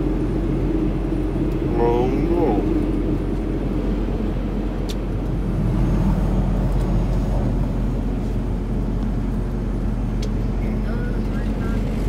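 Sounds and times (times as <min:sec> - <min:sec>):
truck cab engine and road drone: 0:00.0 - 0:12.0.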